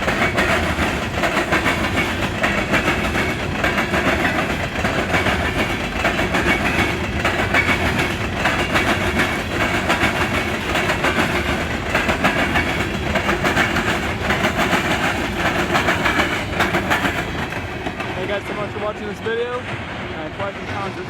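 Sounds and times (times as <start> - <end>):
freight train wheels clattering: 0.0 - 21.0.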